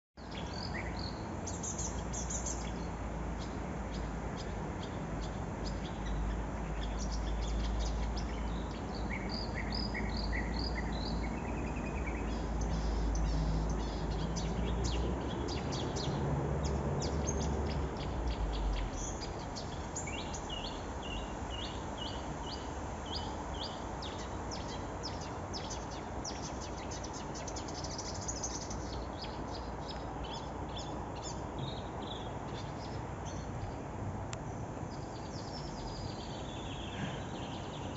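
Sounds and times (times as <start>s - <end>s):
songbird chirping and trilling: 0.2s - 37.9s.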